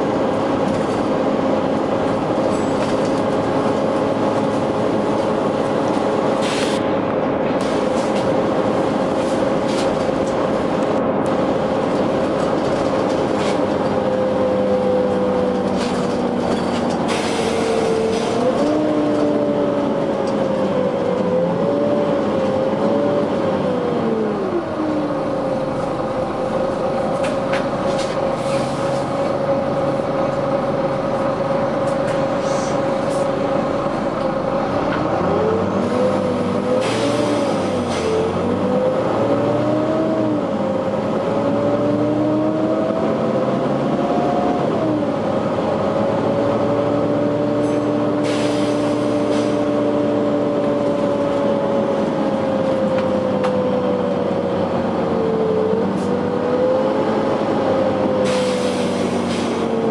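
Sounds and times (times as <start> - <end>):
bus engine and cooling fan: 0.0 - 59.9.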